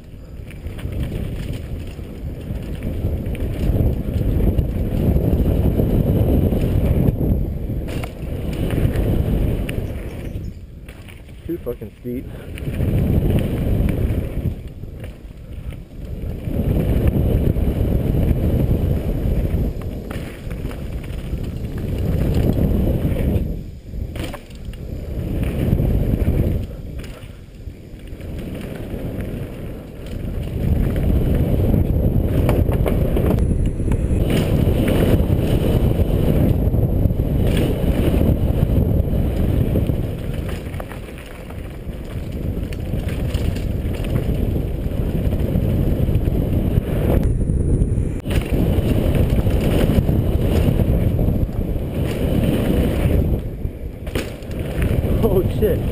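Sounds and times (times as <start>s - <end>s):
bike tyres rumbling on dirt: 0.0s - 55.9s
wind buffeting camera: 0.0s - 55.9s.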